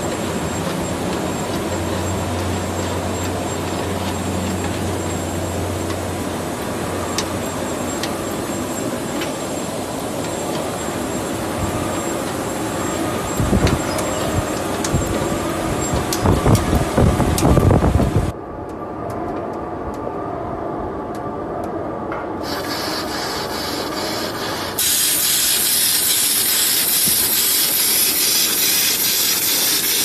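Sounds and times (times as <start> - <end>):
machine whirring: 0.0 - 21.7, 22.3 - 30.0.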